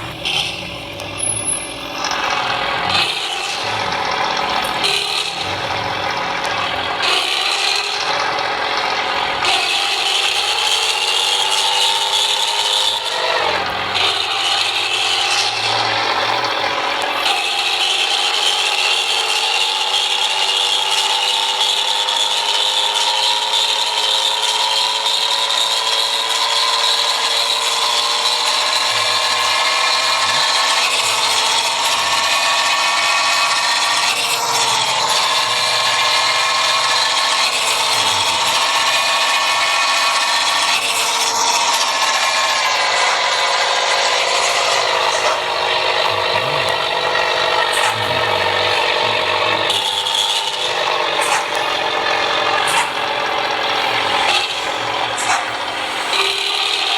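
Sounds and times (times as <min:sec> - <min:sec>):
bus engine rasping growl: 0:00.0 - 0:56.9.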